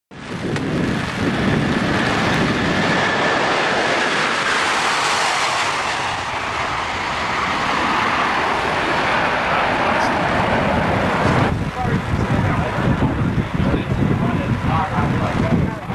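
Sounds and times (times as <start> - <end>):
jet engines roaring: 0.1 - 15.9.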